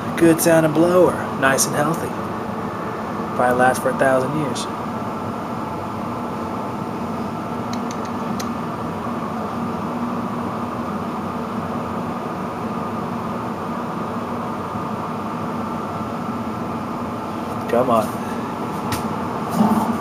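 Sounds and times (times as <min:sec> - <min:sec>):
furnace blower fan running: 0:00.0 - 0:20.0.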